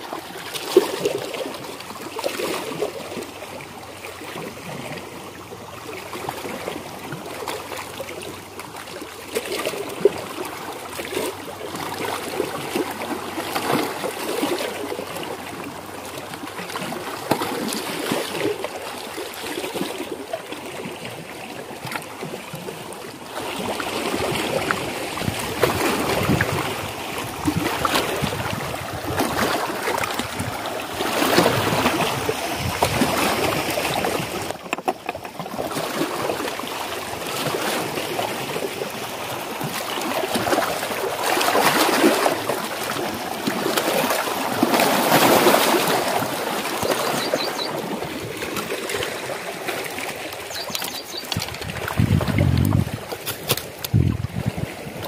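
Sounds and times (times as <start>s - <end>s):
waves lapping against rocks: 0.0s - 55.0s.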